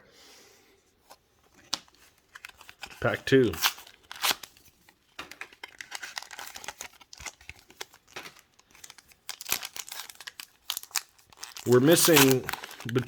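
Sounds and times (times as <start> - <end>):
foil wrapper crinkling and tearing: 1.7 - 13.0.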